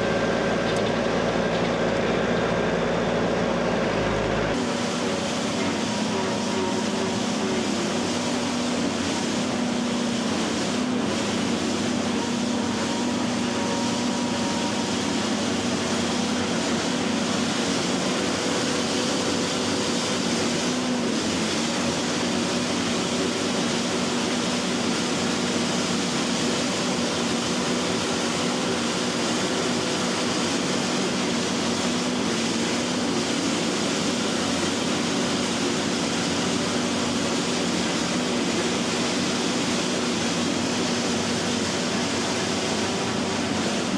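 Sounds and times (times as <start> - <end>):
harvesting machinery droning: 0.0 - 43.9.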